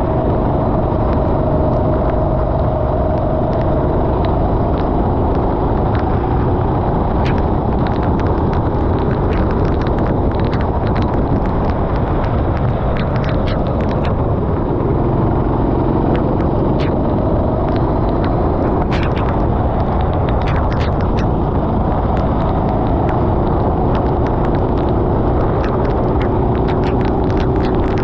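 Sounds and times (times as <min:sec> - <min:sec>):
sharp ticks: 0:03.1 - 0:28.0.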